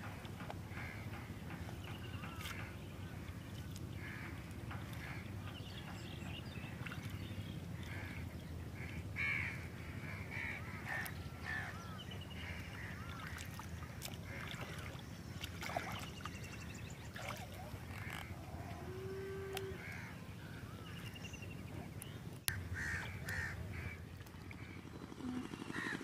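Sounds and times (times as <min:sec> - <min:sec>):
birds calling: 0:00.4 - 0:26.0.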